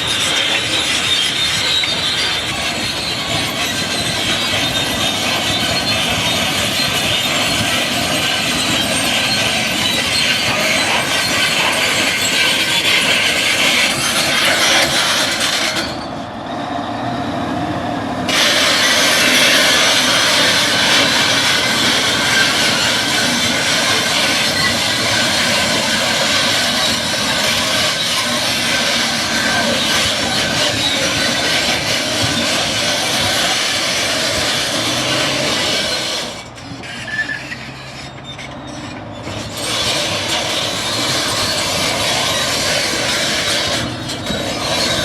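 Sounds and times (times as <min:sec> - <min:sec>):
loud mechanical noise with hiss: 0:00.0 - 0:16.1, 0:18.2 - 0:38.1, 0:39.2 - 0:45.0.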